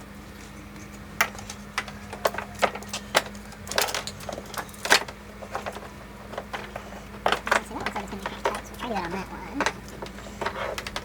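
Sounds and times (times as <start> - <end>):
steady low hum: 0.0 - 11.0
plastic connectors clicking: 0.8 - 11.0.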